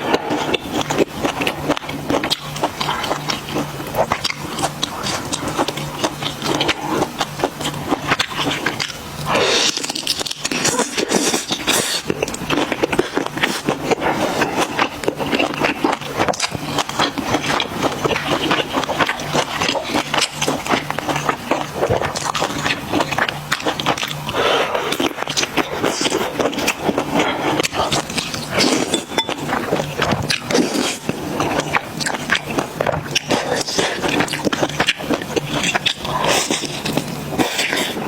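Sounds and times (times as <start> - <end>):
person chewing and biting food: 0.0 - 38.0.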